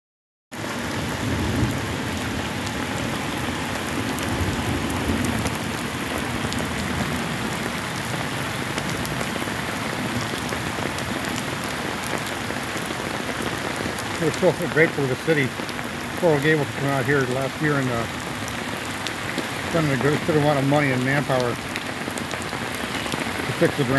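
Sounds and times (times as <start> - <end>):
heavy rain falling: 0.6 - 23.9
raindrops ticking on surfaces: 0.6 - 23.9.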